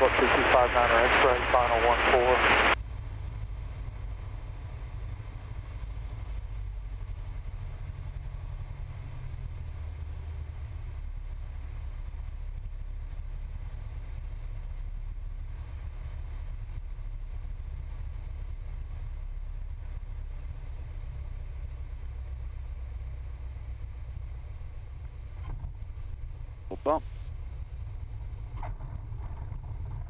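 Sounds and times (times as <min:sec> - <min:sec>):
small plane engine droning: 0:00.0 - 0:30.0.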